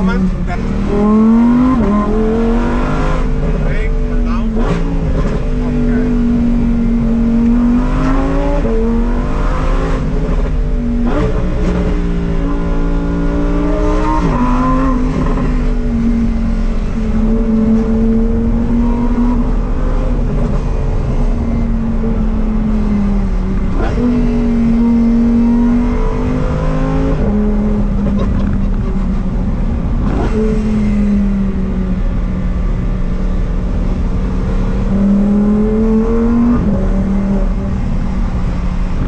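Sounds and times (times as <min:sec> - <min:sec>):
sports car engine accelerating: 0:00.0 - 0:39.0.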